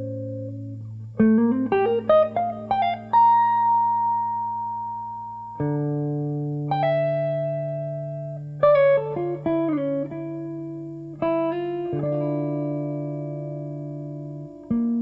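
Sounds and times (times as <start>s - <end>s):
jazz guitar playing: 0.0s - 15.0s.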